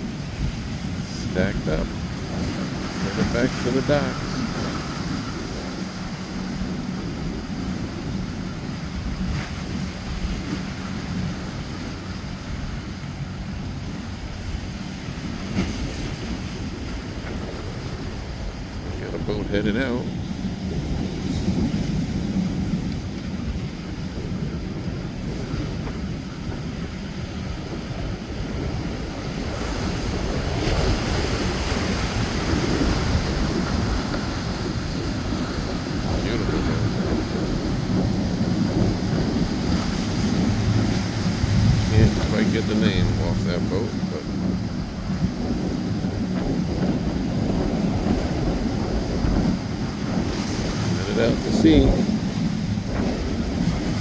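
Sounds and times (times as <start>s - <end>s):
boat engine humming: 0.0s - 54.0s
boat wake washing: 0.0s - 54.0s
wind on microphone: 0.0s - 54.0s.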